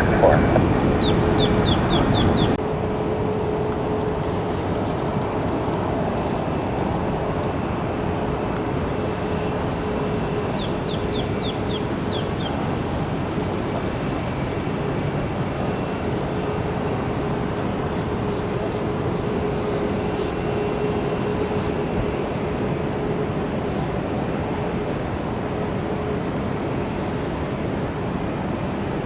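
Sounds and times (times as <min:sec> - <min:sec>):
jet aircraft engine hum: 0:00.0 - 0:29.0.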